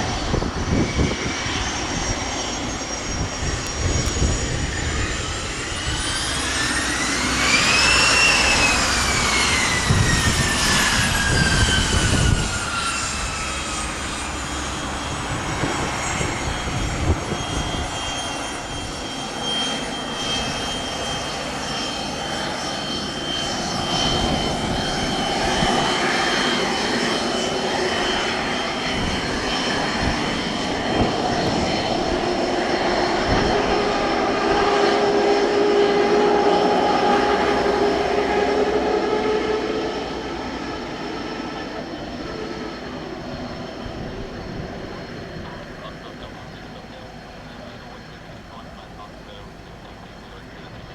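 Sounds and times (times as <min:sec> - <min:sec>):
jet engines whining: 0:00.0 - 0:50.9.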